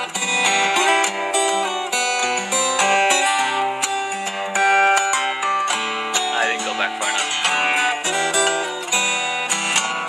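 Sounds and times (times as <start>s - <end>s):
fingerstyle guitar melody: 0.0s - 10.0s.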